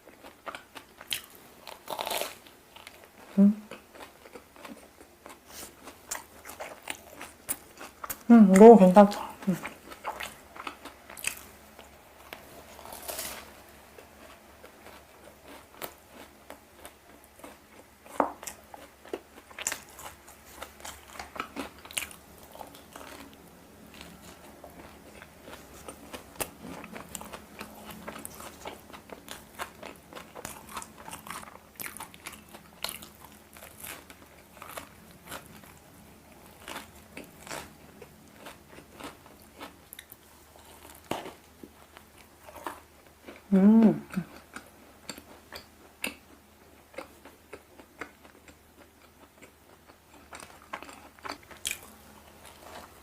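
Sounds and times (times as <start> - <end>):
biting and chewing: 9.2 - 43.5, 44.1 - 53.0.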